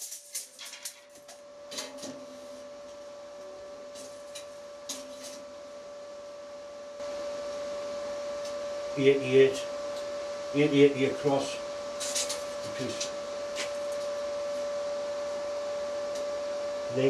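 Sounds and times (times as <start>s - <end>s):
machine hum with high tone: 0.0s - 17.0s.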